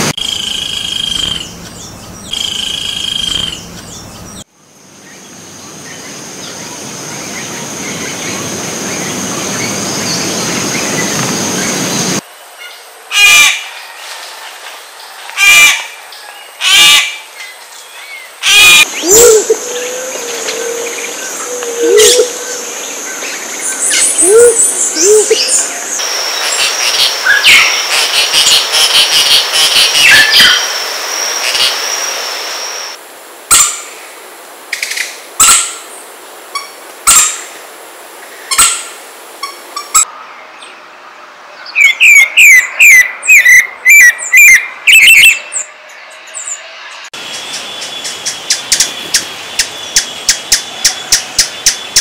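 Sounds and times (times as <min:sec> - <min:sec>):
insect-like bird calls: 0:00.0 - 0:14.0, 0:15.4 - 0:34.1, 0:38.2 - 0:40.1, 0:41.8 - 0:52.0.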